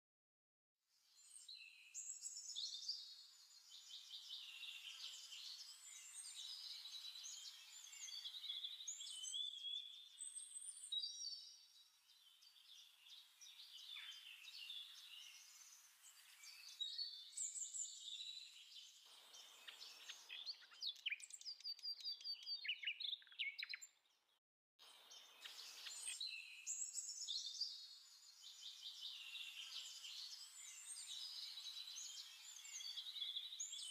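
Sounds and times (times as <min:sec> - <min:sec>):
small birds chirping: 0:01.1 - 0:33.9.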